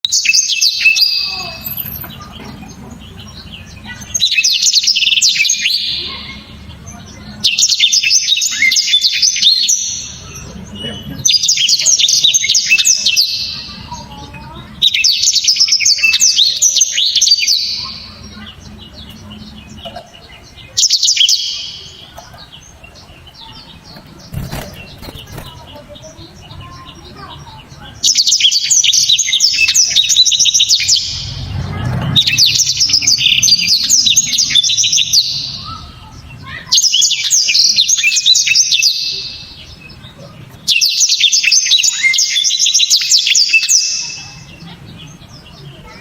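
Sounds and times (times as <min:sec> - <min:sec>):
canary singing trills: 0:00.0 - 0:46.0.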